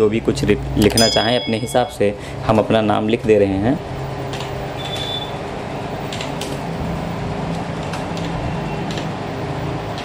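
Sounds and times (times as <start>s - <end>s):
room hum and rumble: 0.0s - 10.0s.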